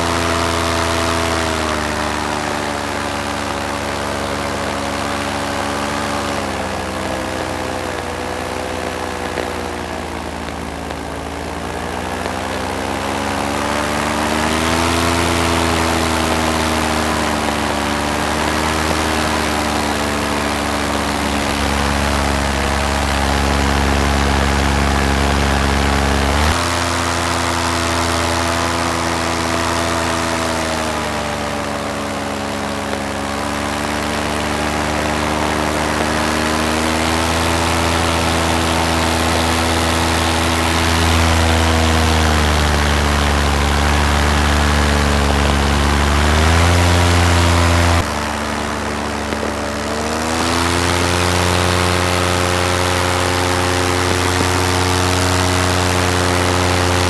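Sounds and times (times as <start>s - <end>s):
paramotor engine and propeller: 0.0s - 57.0s.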